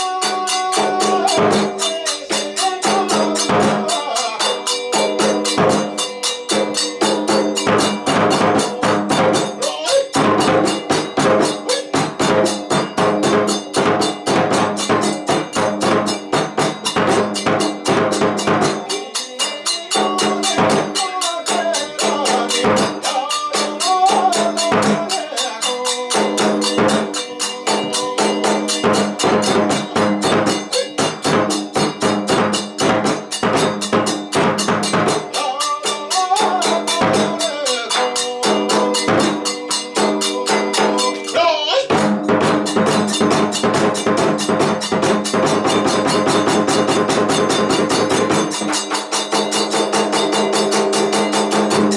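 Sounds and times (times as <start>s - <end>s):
fast drumming and clattering percussion: 0.0s - 51.9s.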